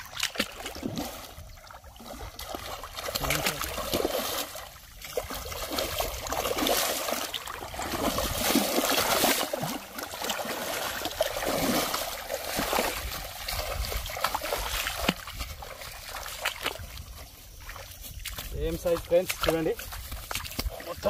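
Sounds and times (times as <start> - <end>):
sharp water slaps: 0.0 - 1.4, 2.0 - 17.0, 17.7 - 21.0
fish thrashing and splashing: 0.0 - 21.0.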